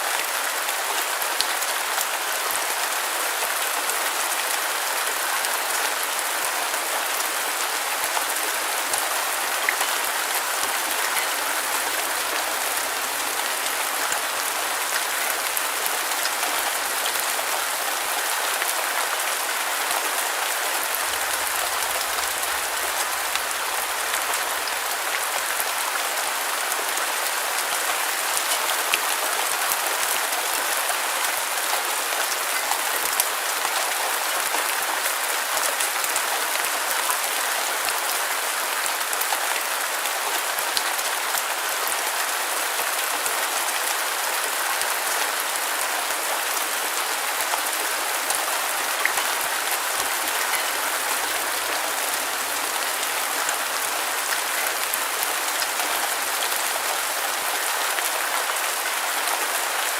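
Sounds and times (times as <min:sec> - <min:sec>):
rain hiss: 0:00.0 - 0:59.8.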